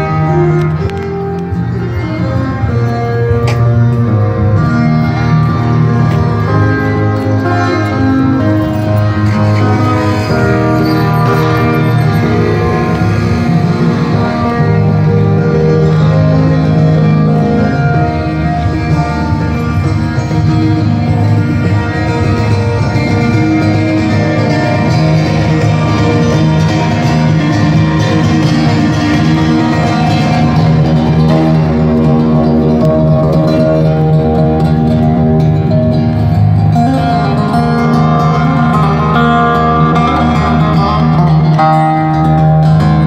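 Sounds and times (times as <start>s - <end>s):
acoustic guitar music over loudspeakers: 0.0s - 43.0s.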